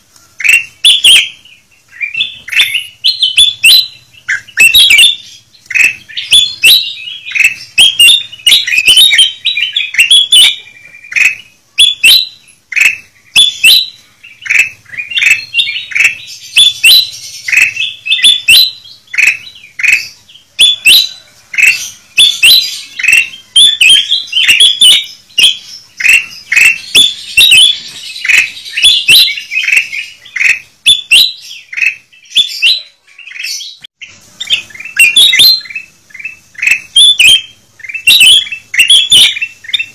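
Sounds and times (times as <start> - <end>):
birds chirping chatter: 0.0 - 39.9.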